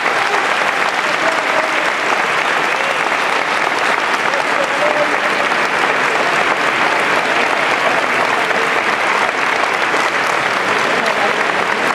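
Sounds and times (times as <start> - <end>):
large crowd applauding: 0.0 - 11.9.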